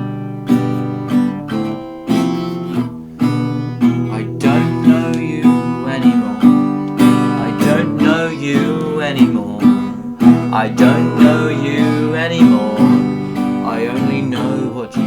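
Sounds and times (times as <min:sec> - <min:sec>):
acoustic guitar strumming: 0:00.0 - 0:15.0
wavering high melody: 0:00.0 - 0:15.0.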